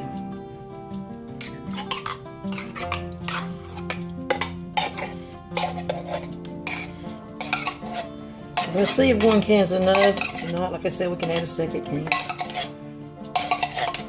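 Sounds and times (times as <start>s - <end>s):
soft background music: 0.0s - 14.0s
spoon scraping and clinking bowl: 1.4s - 14.0s.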